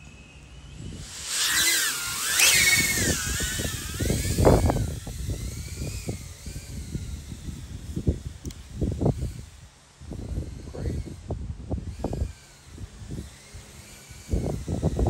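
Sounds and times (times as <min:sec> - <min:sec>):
drone motors whining: 0:00.0 - 0:15.0
wind rumbling on microphone: 0:00.0 - 0:15.0.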